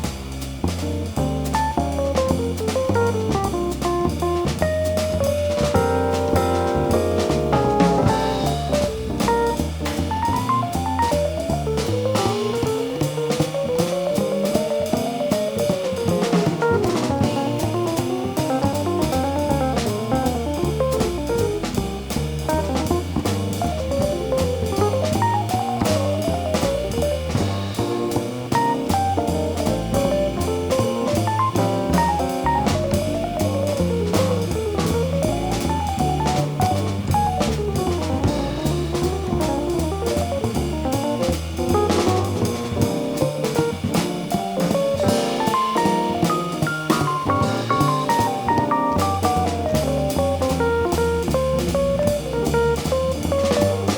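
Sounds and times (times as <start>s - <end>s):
bass notes: 0.0s - 53.9s
drum kit with busy cymbals: 0.0s - 53.9s
electric jazz guitar runs: 0.9s - 53.9s.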